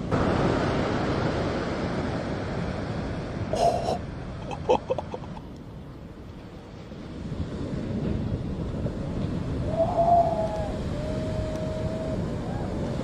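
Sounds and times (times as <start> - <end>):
rushing wind: 0.0 - 13.0
surf: 0.0 - 13.0.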